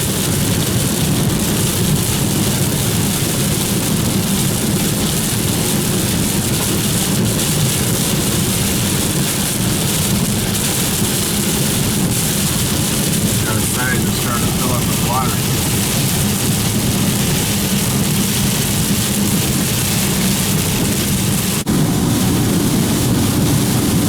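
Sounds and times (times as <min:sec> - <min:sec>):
rain on car body: 0:00.0 - 0:24.0
tyres on wet road: 0:00.1 - 0:24.0.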